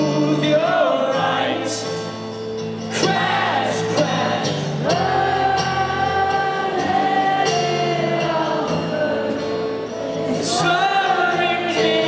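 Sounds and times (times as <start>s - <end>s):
live rock band playing: 1.2s - 12.0s.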